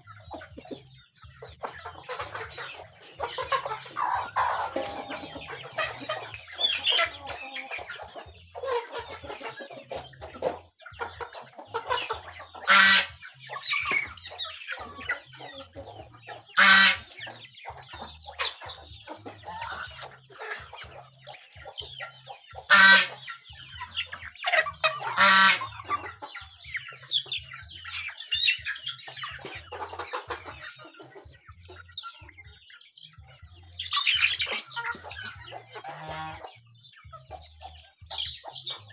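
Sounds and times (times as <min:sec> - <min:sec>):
chickens and geese clucking: 0:00.0 - 0:38.9.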